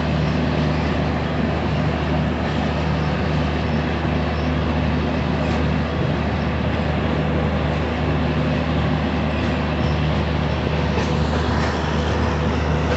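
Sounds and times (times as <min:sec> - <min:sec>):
train rumbling on rails: 0:00.0 - 0:12.9.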